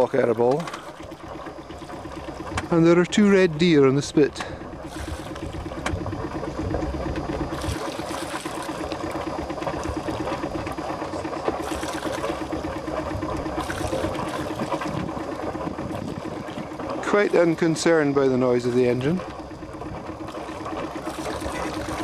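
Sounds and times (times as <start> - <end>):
boat engine idling: 0.0 - 22.0
water noise: 0.0 - 22.0.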